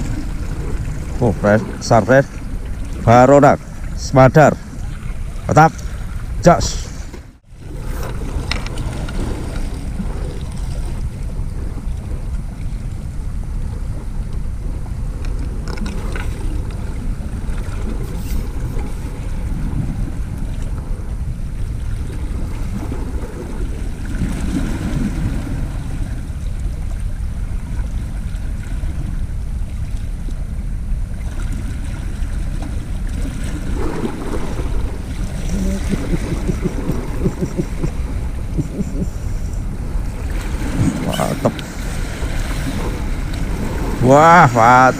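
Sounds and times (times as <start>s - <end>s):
waves lapping against rocks: 0.0s - 44.9s
wind buffeting microphone: 0.0s - 44.9s.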